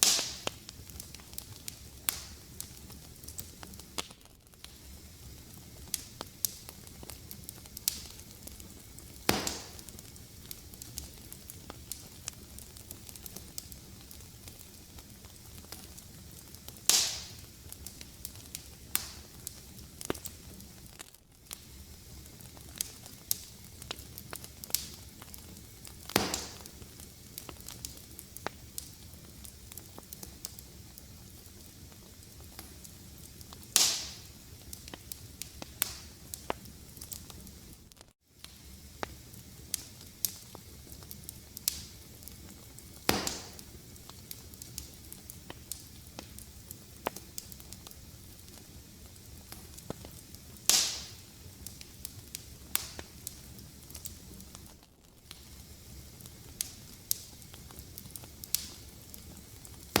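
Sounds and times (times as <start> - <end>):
fire popping: 0.0 - 60.0
fireplace fire crackling: 0.0 - 60.0.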